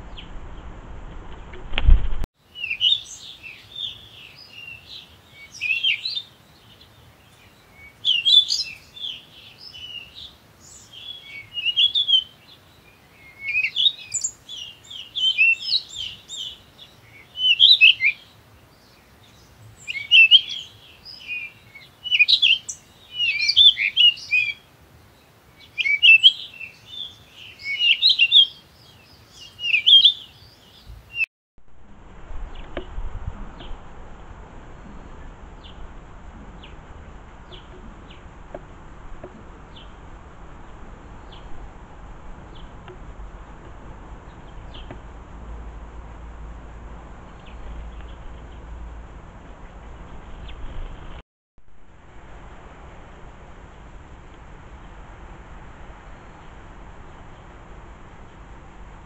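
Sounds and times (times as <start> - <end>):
songbird singing: 0.0 - 1.7, 2.4 - 31.3, 32.3 - 51.8, 53.6 - 59.0.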